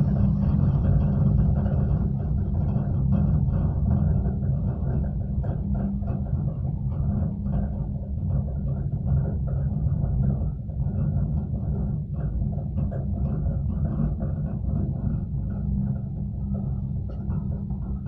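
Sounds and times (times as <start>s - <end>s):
faint ticks and rattles: 0.0s - 18.0s
gondola cabin rumble: 0.0s - 18.0s.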